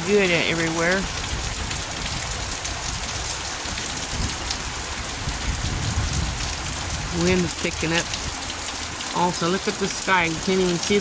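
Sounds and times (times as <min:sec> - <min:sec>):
low wind rumble: 0:00.0 - 0:09.4
heavy rain on wet ground: 0:00.0 - 0:11.0.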